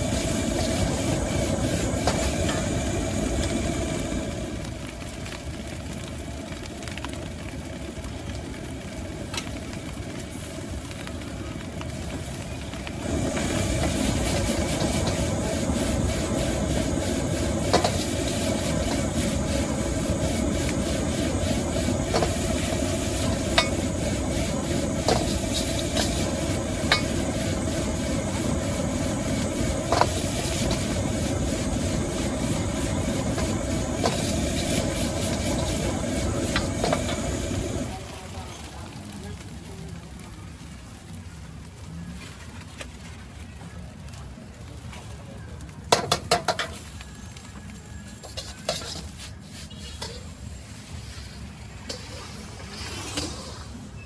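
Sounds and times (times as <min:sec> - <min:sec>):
gas burner roar: 0:00.0 - 0:54.0
wok sizzling: 0:00.0 - 0:54.0.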